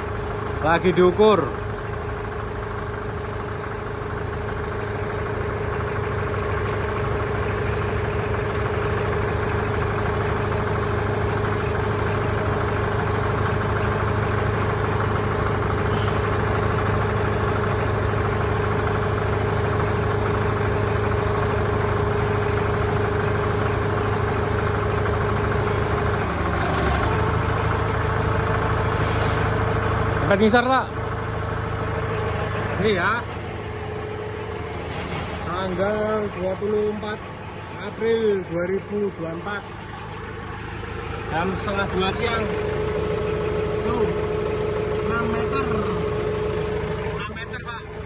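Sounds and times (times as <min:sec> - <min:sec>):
forklift engine idling: 0:00.0 - 0:48.0.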